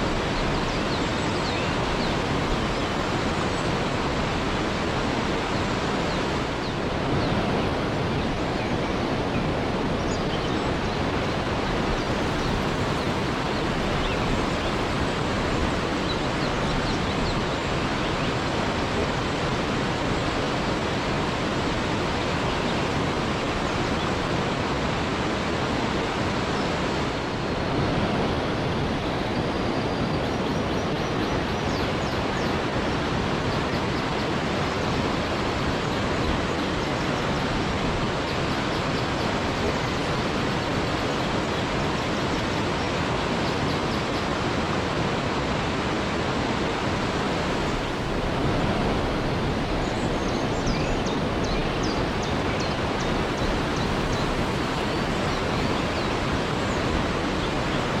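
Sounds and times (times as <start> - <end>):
waterfall rushing: 0.0 - 30.2, 32.6 - 58.0.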